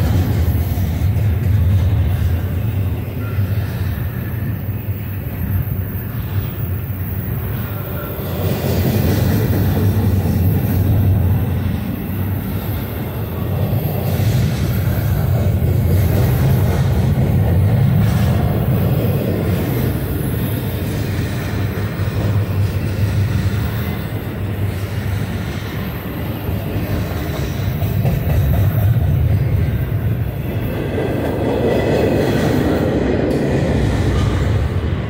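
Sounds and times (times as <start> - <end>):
freight train rolling past: 0.0 - 35.0.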